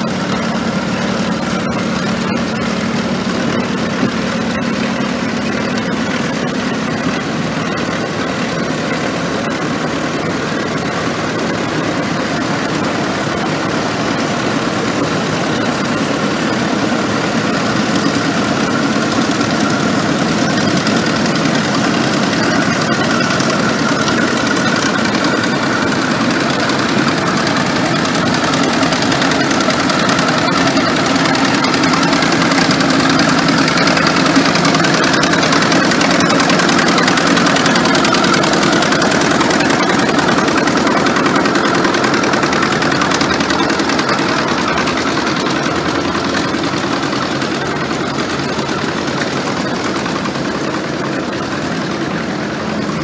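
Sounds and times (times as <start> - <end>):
tractor engines idling: 0.0 - 53.0.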